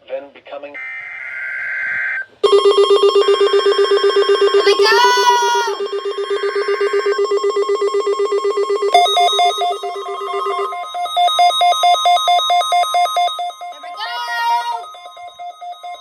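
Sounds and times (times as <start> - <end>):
pulsing electronic alarm trill: 0.8 - 16.0.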